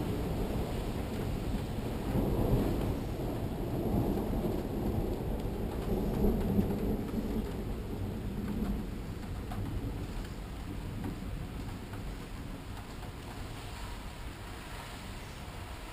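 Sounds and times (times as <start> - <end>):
rain falling: 0.0 - 15.9
thunder rumbling: 0.0 - 15.9.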